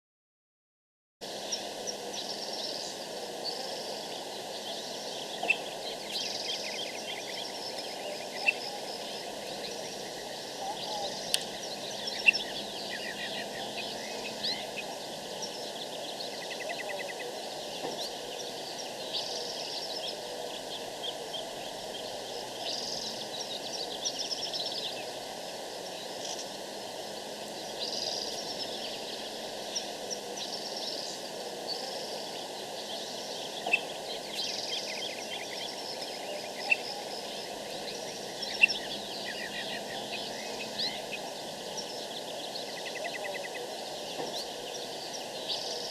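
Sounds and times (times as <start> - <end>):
birds chirping and trilling: 1.2 - 45.9
steady background hiss: 1.2 - 45.9.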